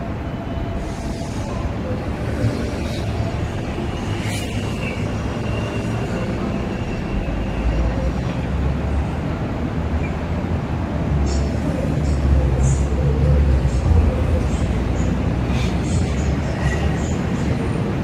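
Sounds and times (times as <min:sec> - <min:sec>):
train approaching rumble: 0:00.0 - 0:18.0.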